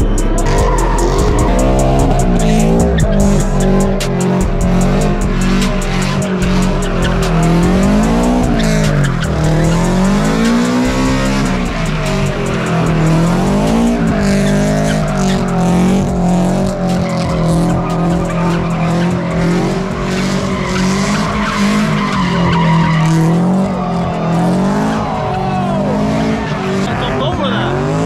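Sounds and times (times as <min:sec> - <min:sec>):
car engine revving hard: 0:00.0 - 0:28.0
tyres squealing on asphalt: 0:00.0 - 0:28.0.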